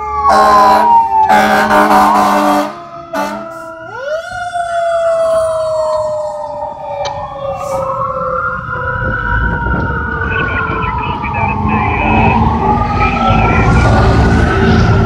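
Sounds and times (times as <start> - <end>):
fire truck siren wailing: 0.0 - 15.0.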